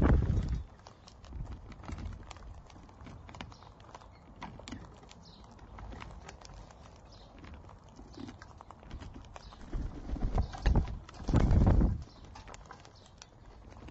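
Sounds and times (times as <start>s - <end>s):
birds pecking and cracking seed: 0.0s - 13.9s.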